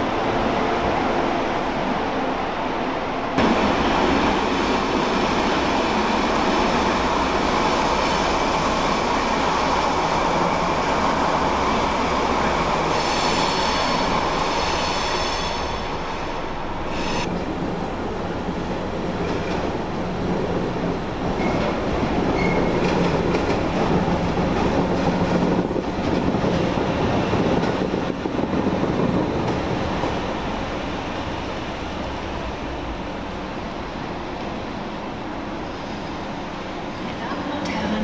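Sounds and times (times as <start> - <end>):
electric locomotive hum: 0.0 - 38.0
wheels rumbling on rails: 3.4 - 38.0.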